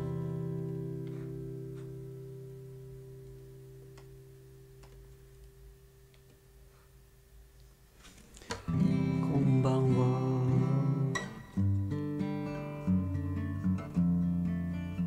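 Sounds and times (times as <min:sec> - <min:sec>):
acoustic guitar strumming chords: 0:00.0 - 0:06.6, 0:08.5 - 0:15.0.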